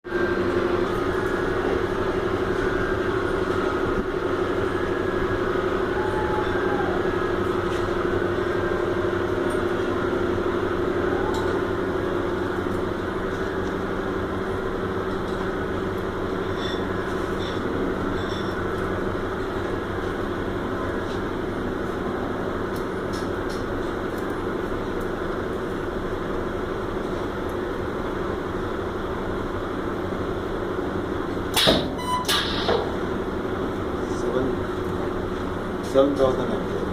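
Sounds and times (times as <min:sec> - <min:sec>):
industrial machine hum: 0:00.0 - 0:36.9.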